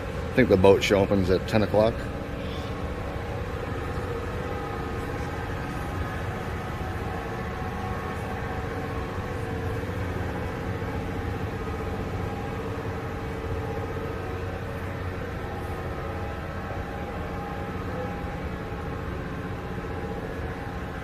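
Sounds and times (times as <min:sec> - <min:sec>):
low hum: 0:00.0 - 0:21.0
mechanical drone with held tones: 0:00.0 - 0:21.0.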